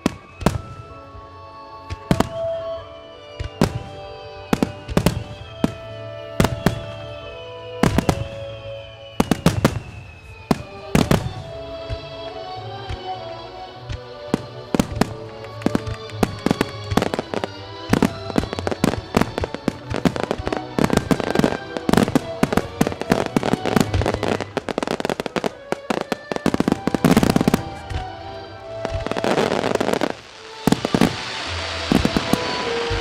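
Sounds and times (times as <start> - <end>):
dense crackling of fireworks: 0.0 - 12.2, 13.8 - 33.0
fireworks bursting and launching: 0.0 - 33.0
music playing: 0.0 - 33.0.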